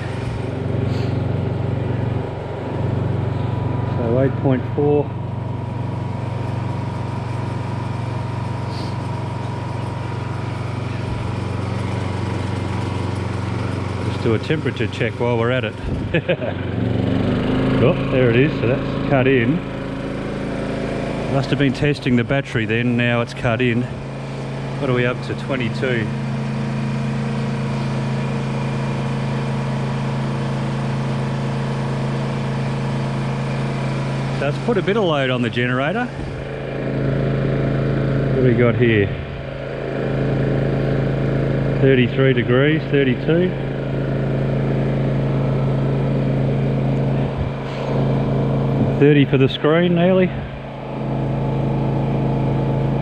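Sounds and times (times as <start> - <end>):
generator engine hum: 0.0 - 53.0.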